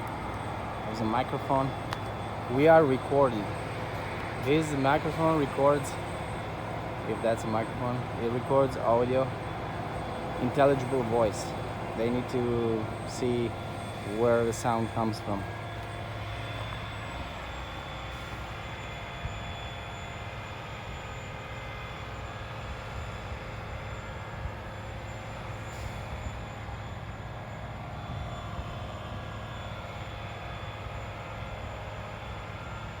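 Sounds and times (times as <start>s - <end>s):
drilling rig drone: 0.0s - 33.0s
high-pitched whine: 0.0s - 33.0s.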